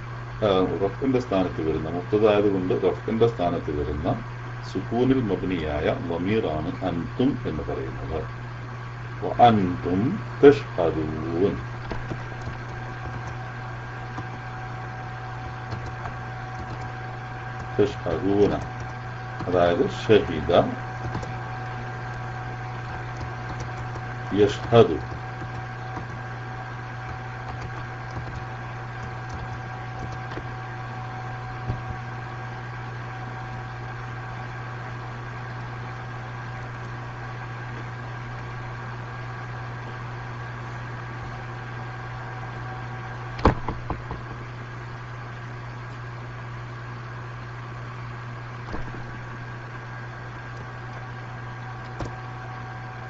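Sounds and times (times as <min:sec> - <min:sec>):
microphone line hum and hiss: 0:00.0 - 0:53.0.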